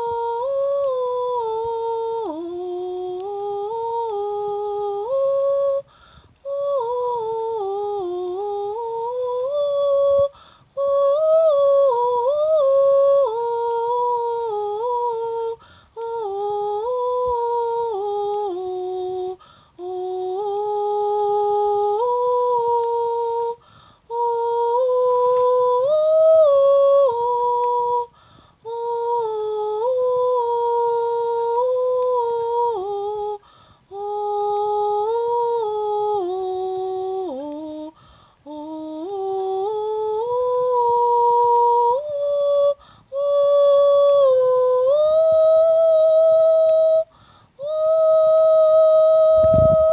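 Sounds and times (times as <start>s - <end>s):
high voice humming: 0.0s - 49.9s.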